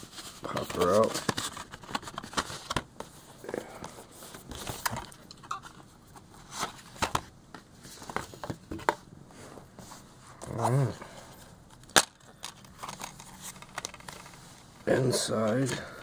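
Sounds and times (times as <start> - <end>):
card and plastic rustling: 0.0 - 15.9.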